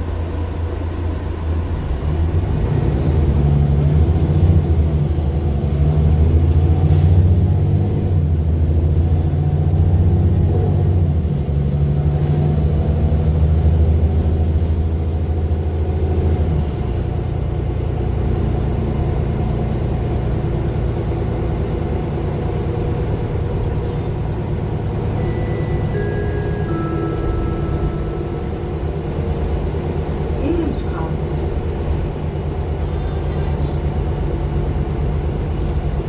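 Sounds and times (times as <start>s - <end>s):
bus diesel engine under load: 0.0s - 36.0s.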